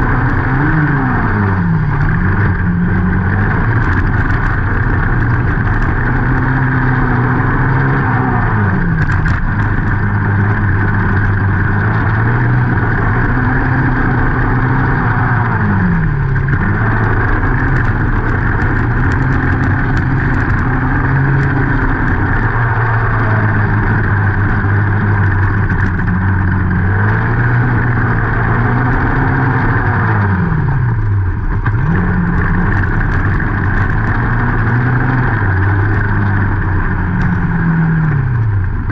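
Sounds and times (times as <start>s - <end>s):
quad engine revving: 0.0s - 38.9s
steady rushing noise: 0.0s - 38.9s.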